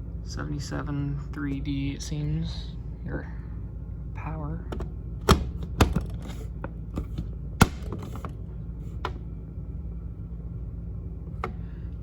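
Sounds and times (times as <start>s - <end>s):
gas furnace humming: 0.0s - 12.0s.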